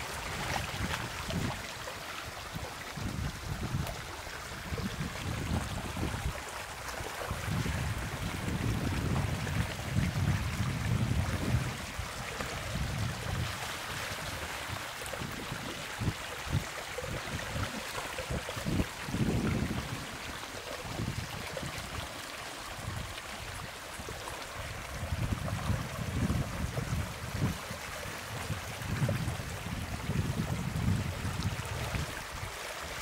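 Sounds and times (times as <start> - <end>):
floodwater running and splashing: 0.0 - 33.0.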